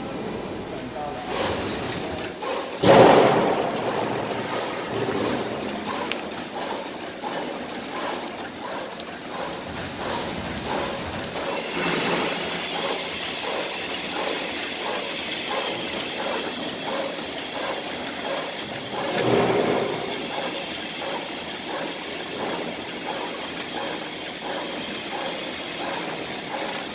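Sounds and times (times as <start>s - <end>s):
bag making machines clattering: 0.9s - 26.9s.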